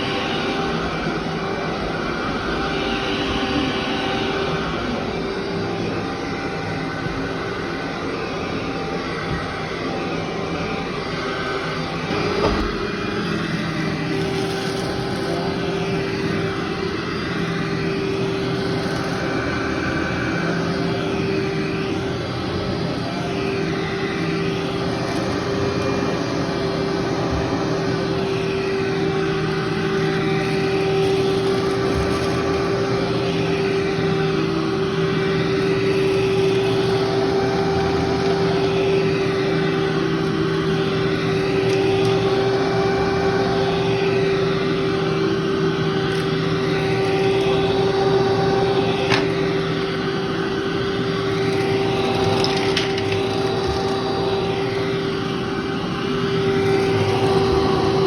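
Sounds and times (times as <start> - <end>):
vacuum cleaner on carpet: 0.0 - 58.0.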